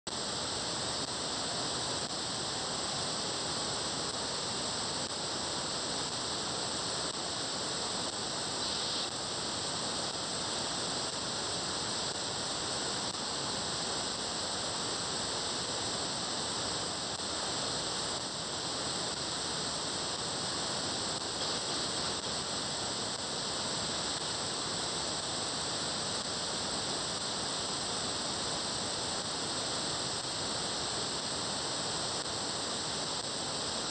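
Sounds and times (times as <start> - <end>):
radio static hiss: 0.1 - 33.9.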